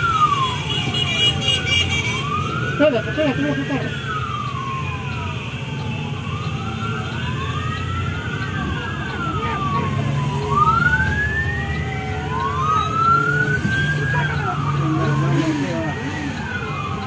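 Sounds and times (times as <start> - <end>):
motorcycle and vehicle engines: 0.0 - 17.0
police sirens wailing: 0.0 - 17.0.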